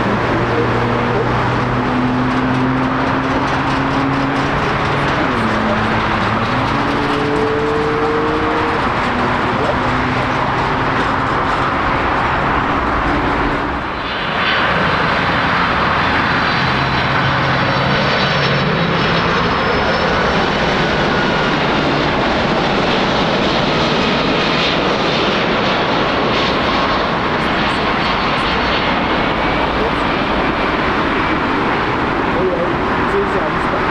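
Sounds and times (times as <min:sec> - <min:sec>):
airliner engines running: 0:00.0 - 0:33.9.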